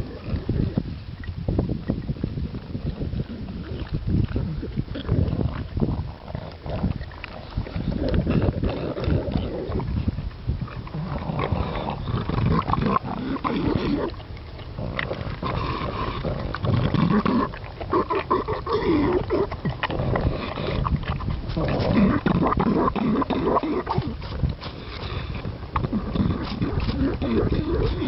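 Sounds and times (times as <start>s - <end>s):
dog chewing and slurping: 0.0s - 28.0s
dog snuffling and grunting: 2.8s - 28.0s.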